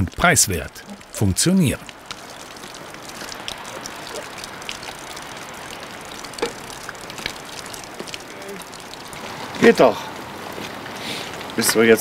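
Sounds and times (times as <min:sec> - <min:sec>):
falling water hiss: 0:00.0 - 0:12.0
water drops: 0:00.0 - 0:12.0.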